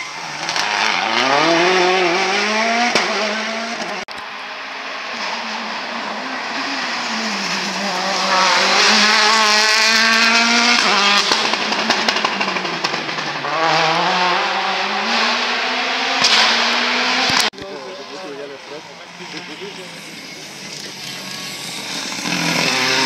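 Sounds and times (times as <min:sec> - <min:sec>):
rally car engine accelerating: 0:00.0 - 0:17.5, 0:18.6 - 0:23.0.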